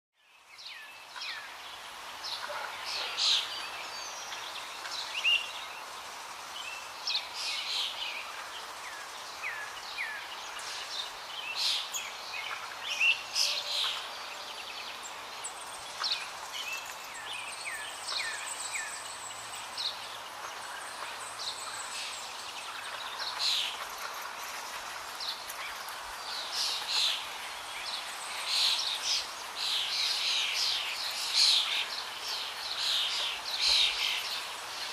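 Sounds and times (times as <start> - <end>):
background hiss: 0.2 - 34.9
birds chirping: 0.2 - 34.9.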